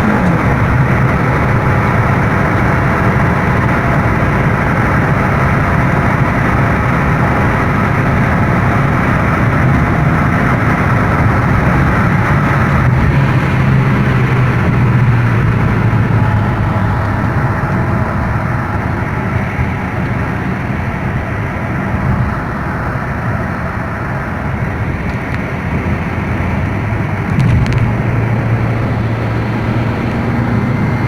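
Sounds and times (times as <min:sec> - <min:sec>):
car engine running: 0:00.0 - 0:31.0
road and tyre noise: 0:00.0 - 0:31.0.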